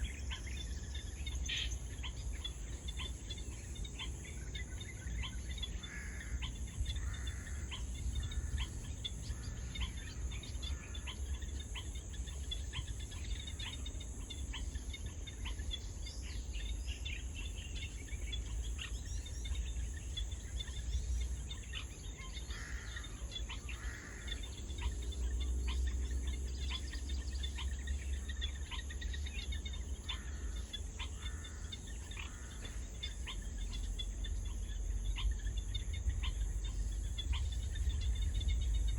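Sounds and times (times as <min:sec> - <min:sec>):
constant low rumble: 0:00.0 - 0:38.9
high-pitched insect trill: 0:00.0 - 0:38.9
pulsing insect call: 0:00.0 - 0:38.9.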